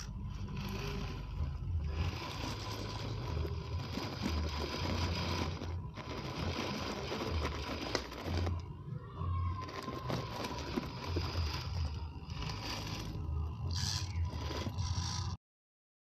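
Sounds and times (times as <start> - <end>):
electric motor and gears whirring: 0.0 - 15.4
low uneven rumble: 0.0 - 15.4.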